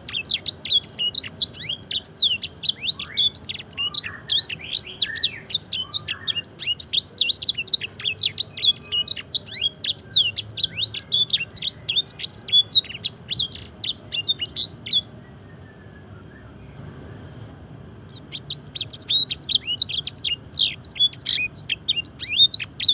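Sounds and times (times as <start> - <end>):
canary singing: 0.0 - 16.8, 18.0 - 22.9.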